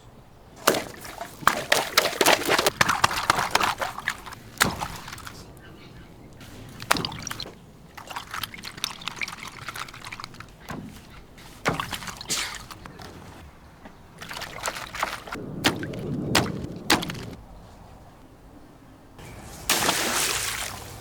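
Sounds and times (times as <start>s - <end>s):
water pouring and sloshing: 0.5s - 17.4s, 19.4s - 21.0s
sharp splashes and knocks: 0.6s - 5.6s, 6.3s - 17.4s, 19.6s - 21.0s.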